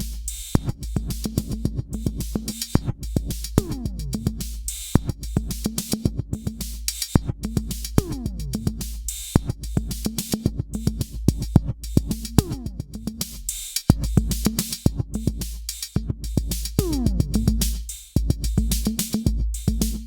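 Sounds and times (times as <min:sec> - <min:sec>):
drum machine beat: 0:00.0 - 0:20.0.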